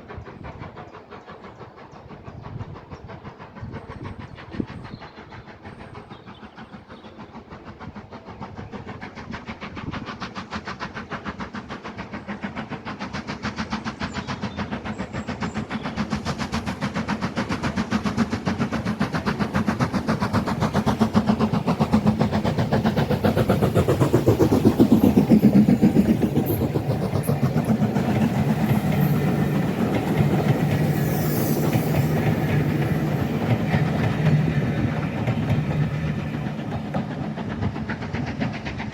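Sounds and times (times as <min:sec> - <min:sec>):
train passing: 0:00.0 - 0:38.9.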